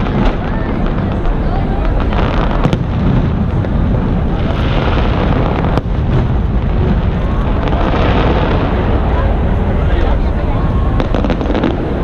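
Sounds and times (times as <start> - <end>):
sharp firework pops: 0.0 - 8.9, 11.0 - 12.0
fireworks booming: 0.0 - 12.0.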